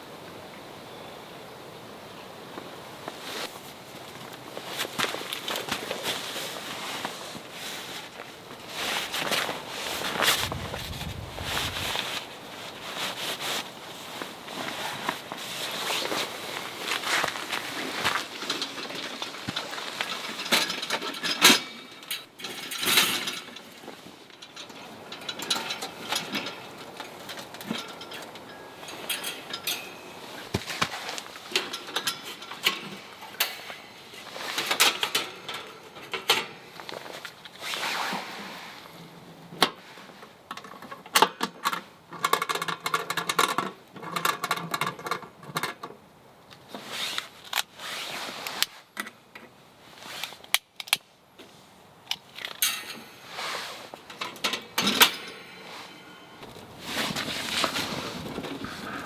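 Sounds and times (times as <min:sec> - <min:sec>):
camping gear clicking and rustling: 0:02.6 - 0:59.0.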